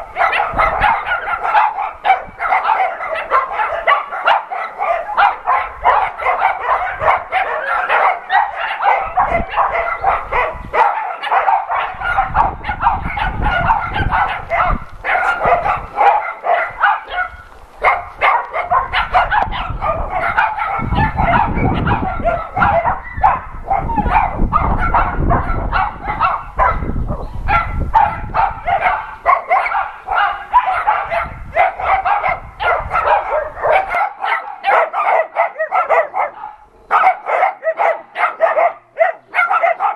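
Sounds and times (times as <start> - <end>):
dogs barking and yipping: 0.0 - 39.9.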